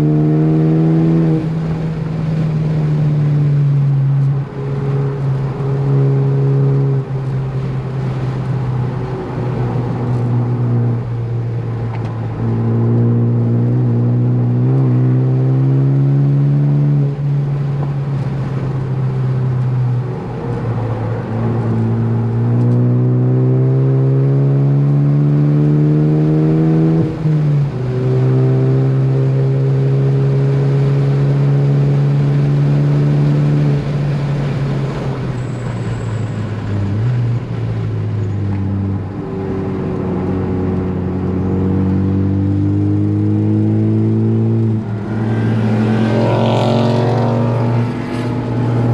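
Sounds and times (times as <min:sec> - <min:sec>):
car engine accelerating hard: 0:00.0 - 0:48.9.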